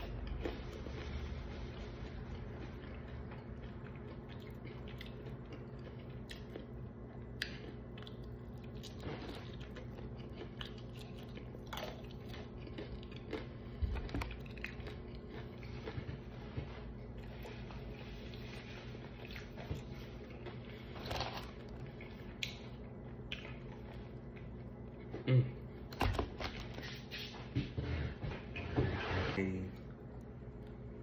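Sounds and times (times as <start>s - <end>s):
person chewing food: 0.0s - 27.4s
steady low hum: 0.0s - 31.0s.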